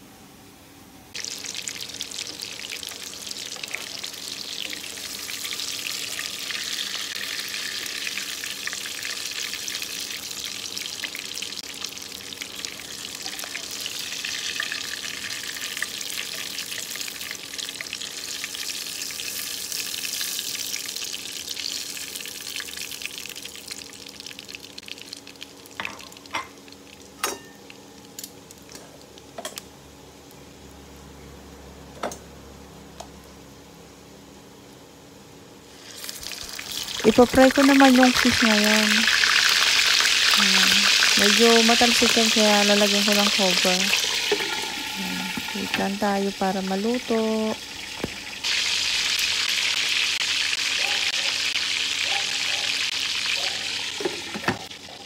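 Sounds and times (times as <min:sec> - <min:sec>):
hot oil sizzling and crackling: 0:01.1 - 0:30.8, 0:35.6 - 0:55.0.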